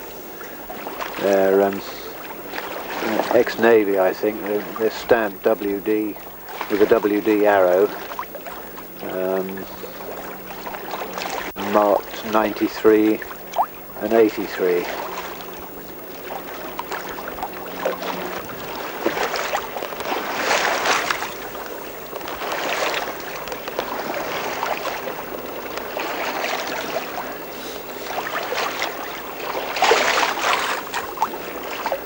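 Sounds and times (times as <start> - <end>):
water rushing along a boat hull: 0.0 - 32.0.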